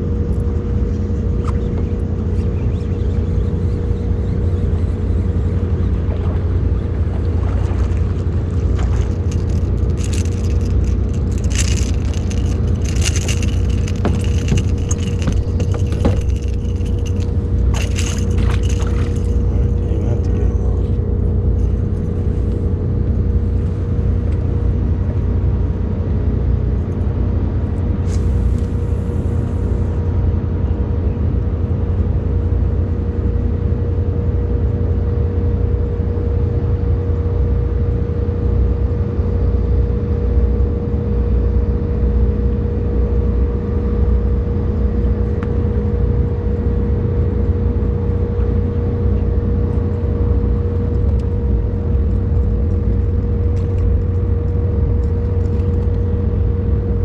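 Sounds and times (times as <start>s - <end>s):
boat motor rumbling: 0.0s - 57.0s.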